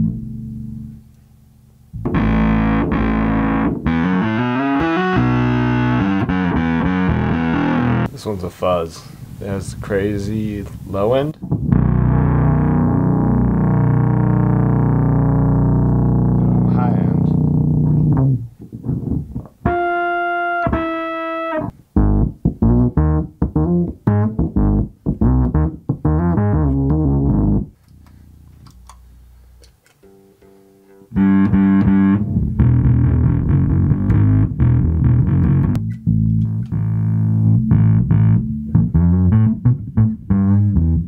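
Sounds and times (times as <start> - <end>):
fuzzed electric bass: 0.0 - 8.1, 9.2 - 29.6, 31.1 - 41.0.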